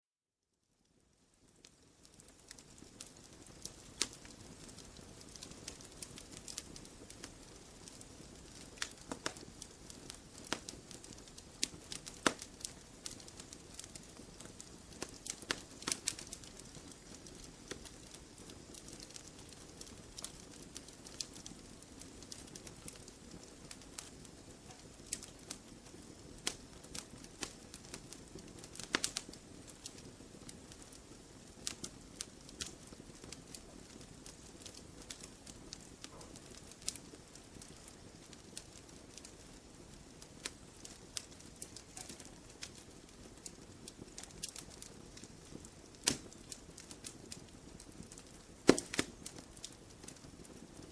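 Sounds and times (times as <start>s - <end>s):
fire crackling snaps and pops: 0.6s - 50.9s
campfire hissing: 1.4s - 50.9s.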